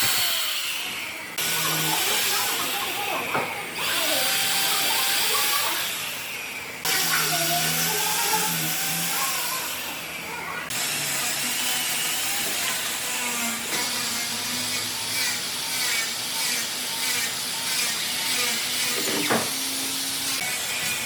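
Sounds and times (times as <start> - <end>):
power tool working wood: 0.0 - 21.0.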